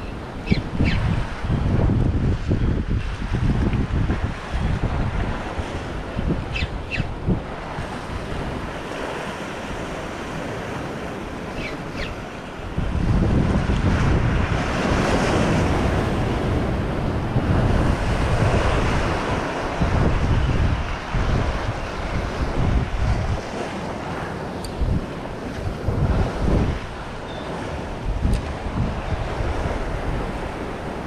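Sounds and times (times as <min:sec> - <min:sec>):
wind buffeting microphone: 0:00.0 - 0:31.0
sea waves breaking on rocks: 0:01.2 - 0:31.0.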